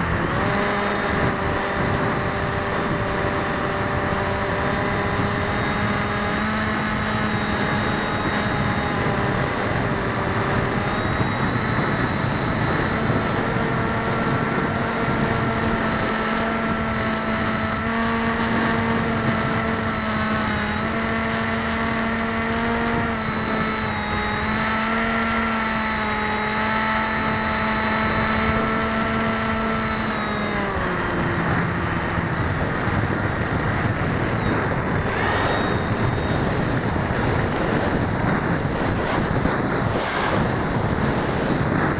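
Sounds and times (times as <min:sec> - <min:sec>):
propellers whining: 0:00.0 - 0:41.9
wind noise: 0:00.0 - 0:41.9.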